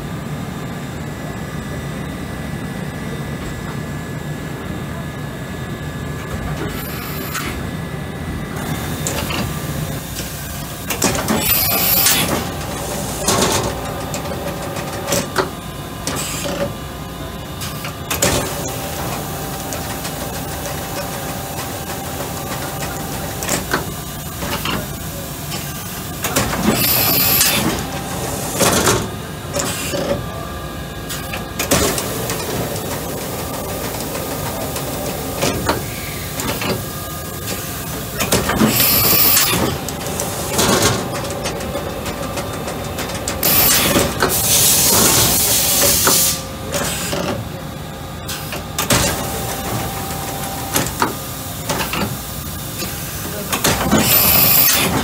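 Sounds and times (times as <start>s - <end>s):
machine mechanical hum: 0.0s - 55.0s.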